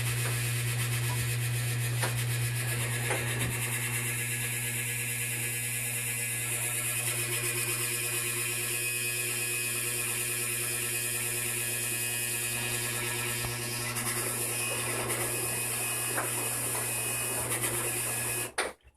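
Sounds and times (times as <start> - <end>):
washing machine buzzing hum: 0.0 - 18.9.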